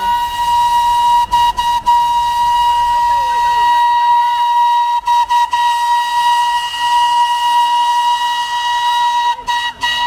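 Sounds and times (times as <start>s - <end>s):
steam locomotive whistle: 0.0s - 10.0s.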